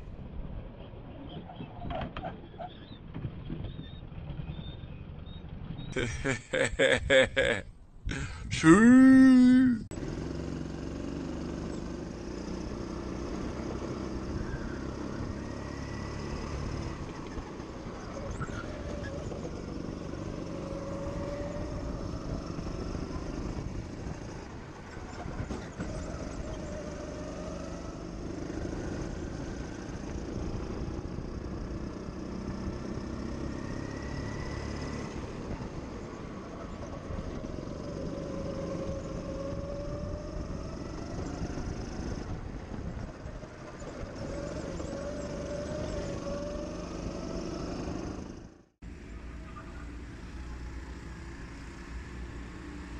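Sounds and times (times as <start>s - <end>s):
go-kart engine revving: 9.9s - 52.9s.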